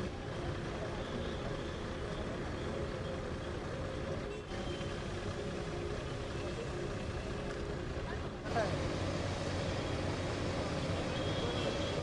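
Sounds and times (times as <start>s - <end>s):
heavy engines rumbling: 0.0s - 12.0s.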